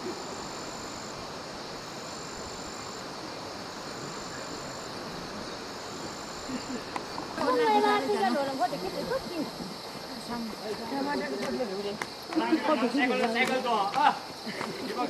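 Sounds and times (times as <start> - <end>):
high-pitched insect call: 0.0 - 15.0
rushing outdoor background noise: 0.0 - 15.0.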